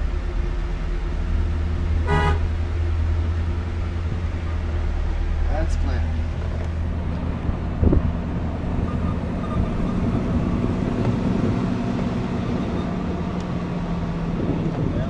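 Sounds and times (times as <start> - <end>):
motorhome engine droning: 0.0 - 15.0.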